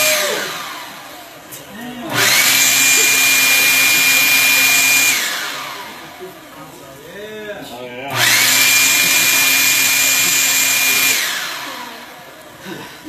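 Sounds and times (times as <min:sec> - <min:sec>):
leaf blower whine: 0:00.0 - 0:06.5, 0:08.1 - 0:13.0.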